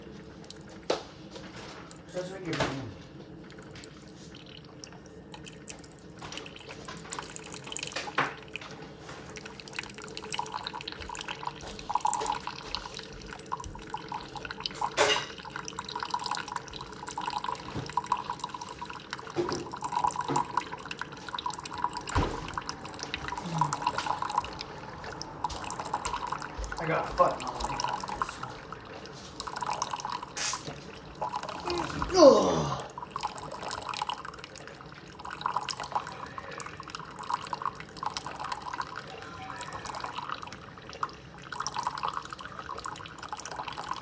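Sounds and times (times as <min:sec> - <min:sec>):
water running and splashing: 0:03.4 - 0:44.0.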